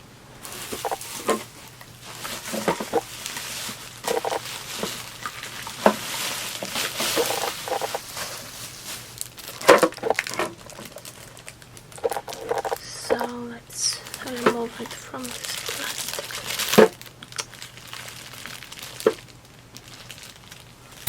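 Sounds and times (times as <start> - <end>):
packaging rustling: 0.4 - 13.4, 14.0 - 21.0.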